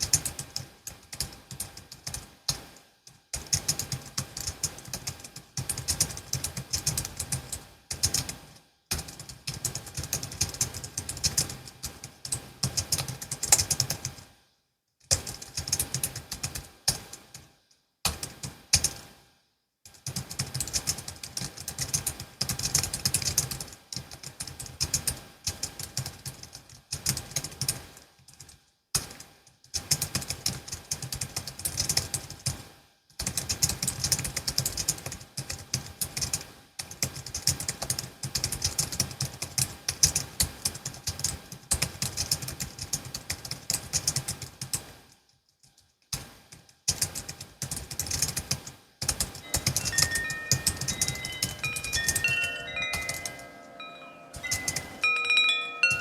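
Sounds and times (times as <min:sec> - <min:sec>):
fast keyboard typing: 0:00.0 - 0:14.2, 0:15.0 - 0:17.5, 0:18.1 - 0:19.1, 0:19.9 - 0:32.6, 0:33.2 - 0:45.1, 0:45.7 - 0:56.0.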